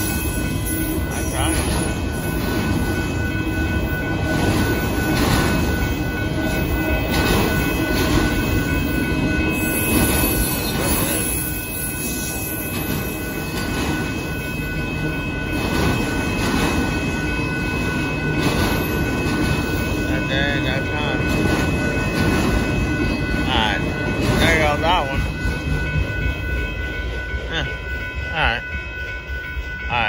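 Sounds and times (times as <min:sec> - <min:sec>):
steady high-pitched tone: 0:00.0 - 0:30.0
train wheels rumbling on rail: 0:00.0 - 0:30.0.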